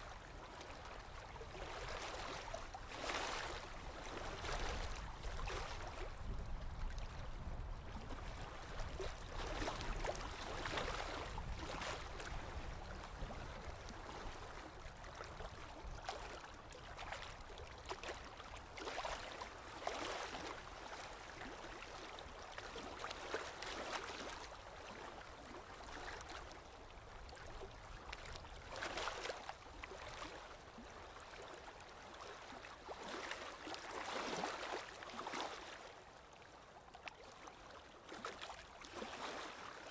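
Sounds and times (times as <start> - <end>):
water lapping and gurgling: 0.0 - 39.9.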